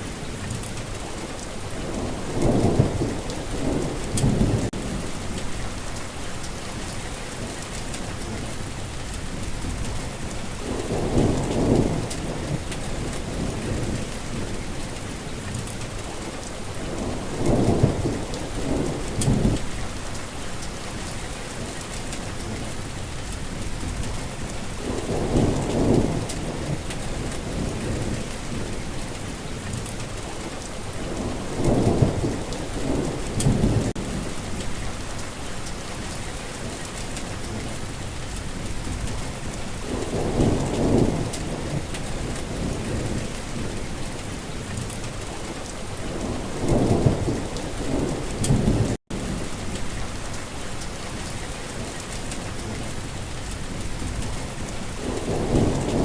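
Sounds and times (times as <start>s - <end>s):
heavy rain falling: 0.0s - 56.0s
thunder rumbling: 1.0s - 15.0s, 16.0s - 22.7s, 23.5s - 30.1s, 30.8s - 56.0s.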